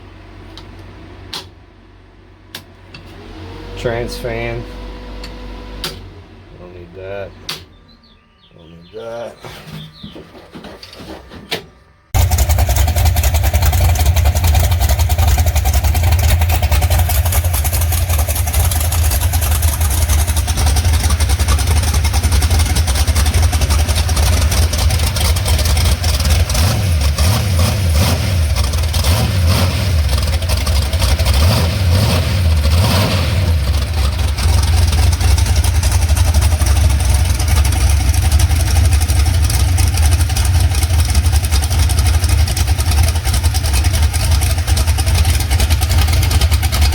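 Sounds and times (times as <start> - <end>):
loud car engine running: 0.0 - 7.9, 12.2 - 46.9.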